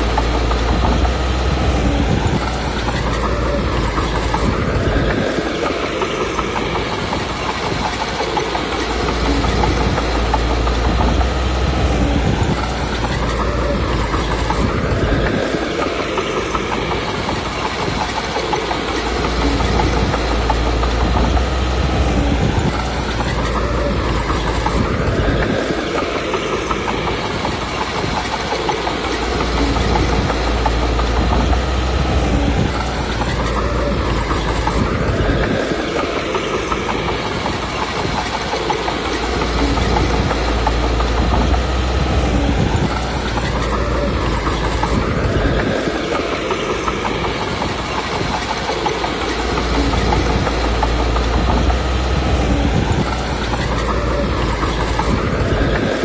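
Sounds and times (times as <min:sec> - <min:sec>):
bulldozer diesel engine under load: 0:00.0 - 0:56.0
tracks clanking: 0:00.0 - 0:56.0.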